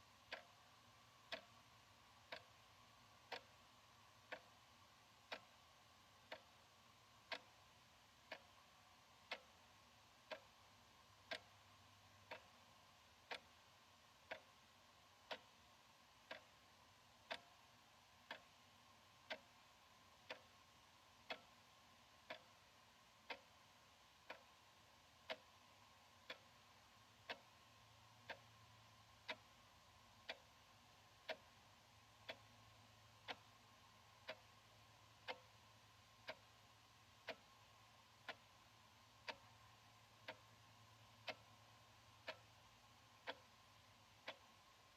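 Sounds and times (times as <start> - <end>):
wall clock ticking: 0.0 - 44.9.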